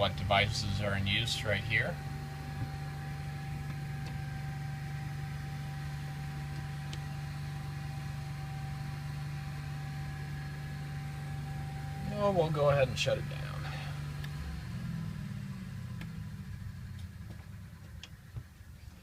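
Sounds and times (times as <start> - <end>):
generator humming with whine: 0.0 - 19.0.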